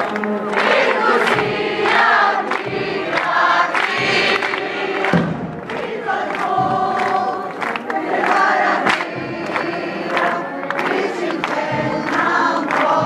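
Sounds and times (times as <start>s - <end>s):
crowd singing: 0.0s - 13.0s.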